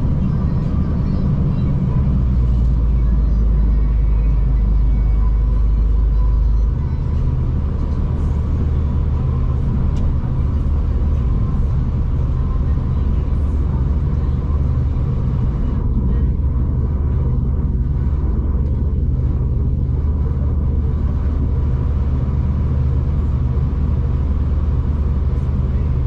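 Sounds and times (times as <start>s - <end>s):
train rumble from on board: 0.0s - 26.0s.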